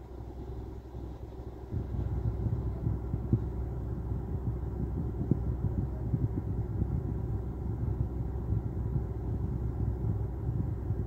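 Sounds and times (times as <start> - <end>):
car idling rumble: 0.0 - 11.0.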